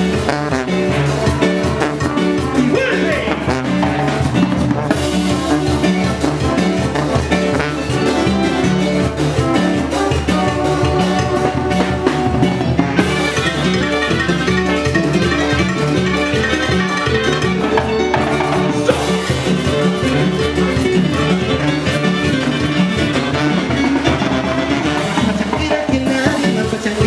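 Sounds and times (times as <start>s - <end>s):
brass band playing: 0.0s - 27.0s
drums keeping beat: 0.0s - 27.0s
sousaphone bass line: 0.0s - 27.0s.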